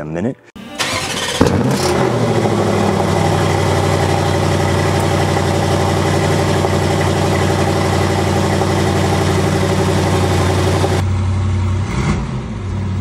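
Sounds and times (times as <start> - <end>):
car engine idling: 0.8 - 11.8.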